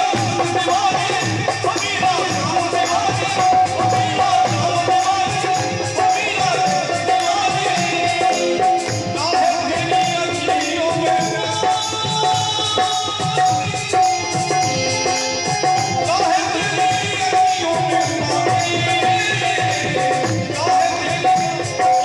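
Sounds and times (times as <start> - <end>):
hand drum rhythm: 0.0 - 22.0
harmonium and keyboard melody: 0.0 - 22.0
person singing: 0.0 - 22.0.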